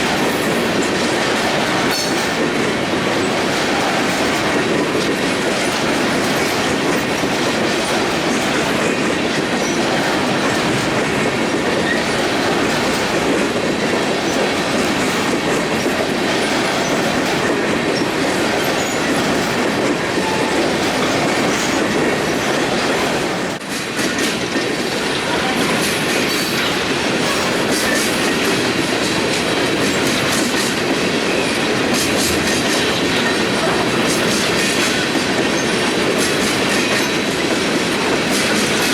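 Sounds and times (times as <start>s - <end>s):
train wheels rolling on rails: 0.0s - 38.9s.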